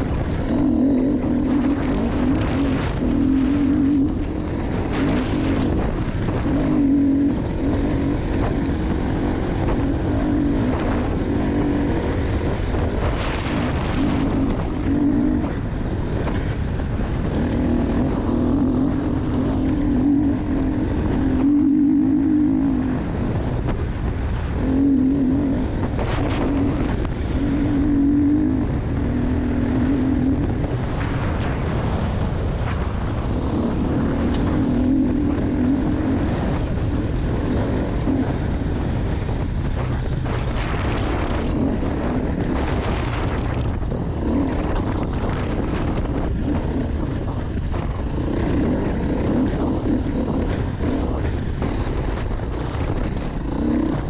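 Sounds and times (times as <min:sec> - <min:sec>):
dirt bike engine revving: 0:00.0 - 0:54.0
wind buffeting microphone: 0:00.0 - 0:54.0.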